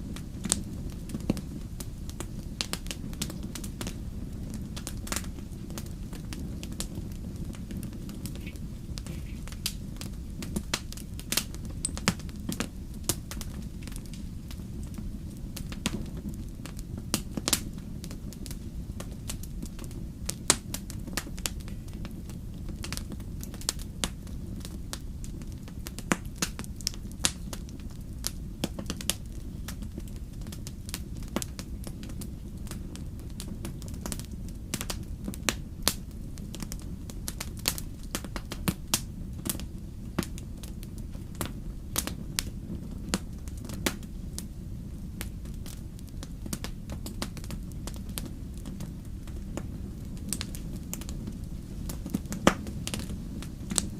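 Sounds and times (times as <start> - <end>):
fire crackling and popping: 0.0 - 53.9
low fire rumble: 0.0 - 53.9.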